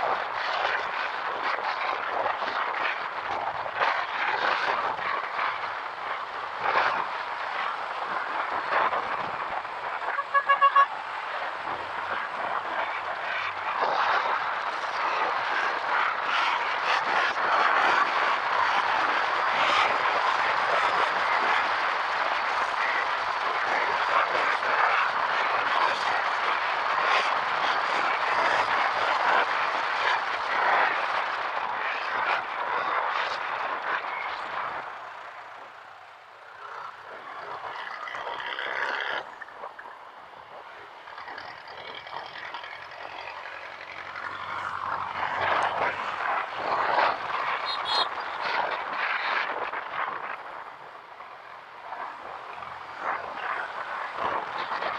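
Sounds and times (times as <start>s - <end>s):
motorcycle road noise: 0.0s - 54.9s
wind rushing over microphone: 0.0s - 54.9s.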